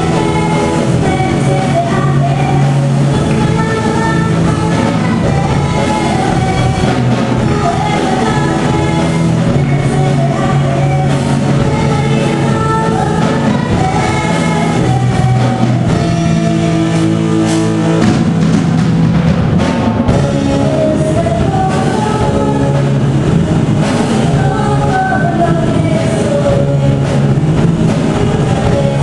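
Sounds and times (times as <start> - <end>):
woman singing lead: 0.0 - 18.0, 20.1 - 29.0
drum kit: 0.0 - 29.0
electric guitar: 0.0 - 29.0.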